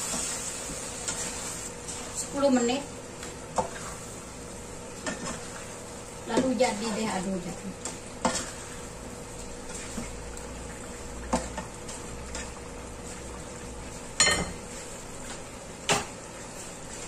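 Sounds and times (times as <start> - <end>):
sauce bubbling and sizzling: 0.0 - 17.0.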